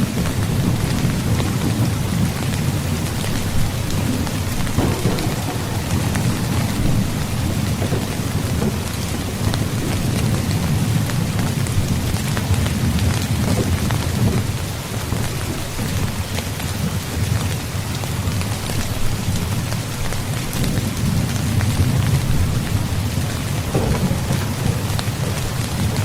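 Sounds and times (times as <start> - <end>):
distant thunder rumble: 0.0 - 17.4, 18.7 - 26.0
heavy rain pouring: 0.0 - 26.0
sharp raindrop hits: 0.0 - 26.0.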